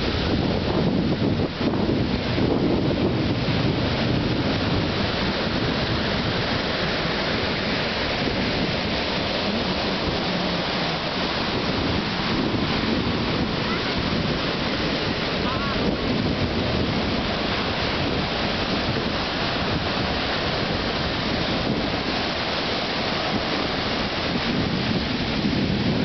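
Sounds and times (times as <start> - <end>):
ocean surf breaking on sand: 0.0 - 26.0.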